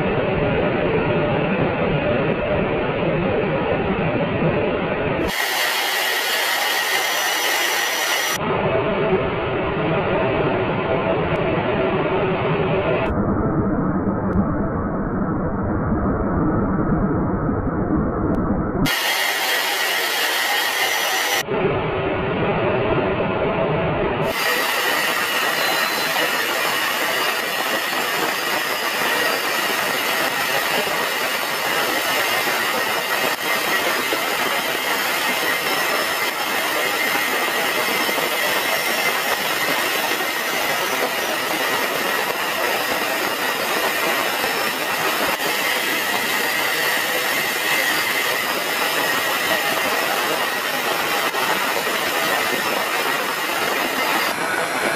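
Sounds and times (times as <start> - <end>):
aircraft jet noise: 3.6 - 15.4, 17.7 - 54.9.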